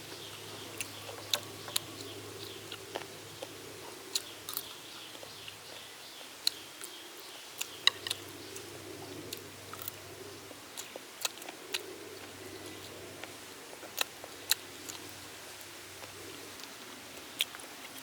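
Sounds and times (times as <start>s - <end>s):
faint steady background: 0.0s - 18.0s.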